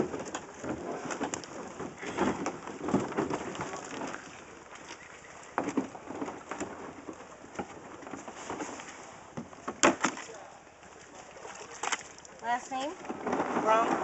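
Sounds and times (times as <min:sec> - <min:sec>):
kayak knocking: 0:00.0 - 0:14.0
water splashing: 0:00.0 - 0:14.0.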